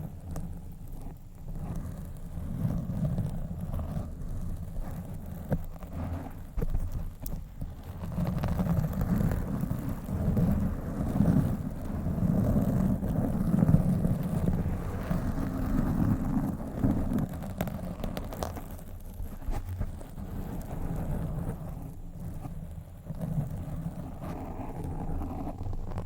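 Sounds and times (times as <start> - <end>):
fingers scratching a microphone: 1.0 - 26.0.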